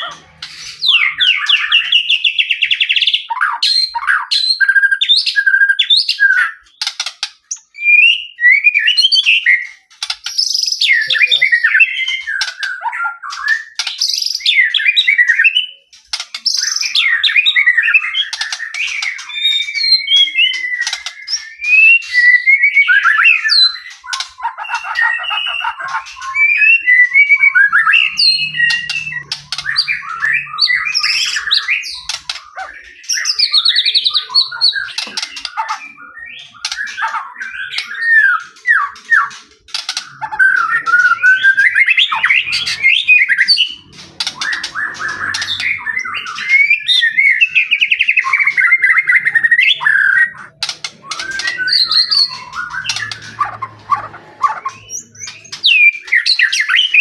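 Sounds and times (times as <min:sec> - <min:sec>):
songbird whistling and trilling: 0:00.0 - 0:57.0.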